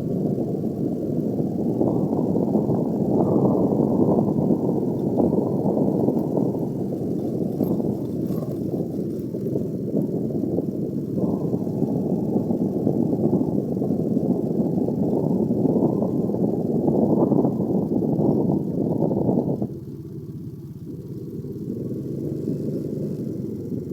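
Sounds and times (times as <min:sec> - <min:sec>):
vehicle low rumbling: 0:00.0 - 0:23.9.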